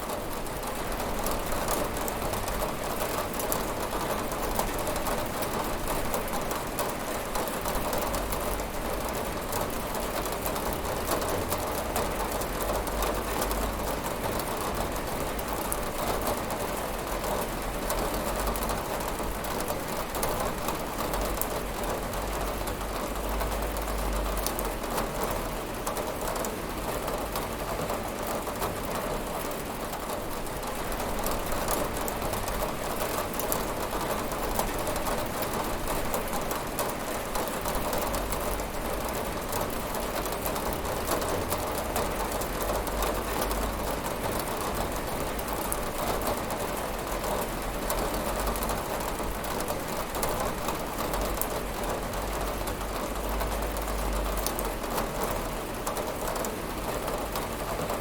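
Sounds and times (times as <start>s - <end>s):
rain on a window pane: 0.0s - 58.0s.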